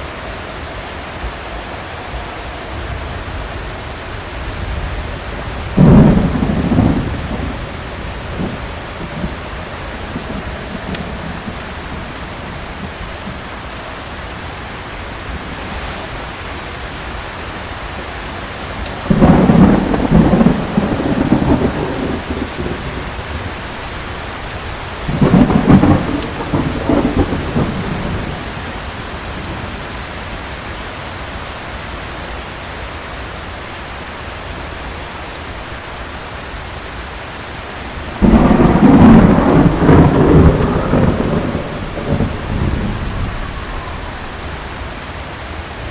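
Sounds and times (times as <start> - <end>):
heavy rain falling: 0.0 - 45.9
thunder rumbling: 2.1 - 31.1, 37.6 - 45.9.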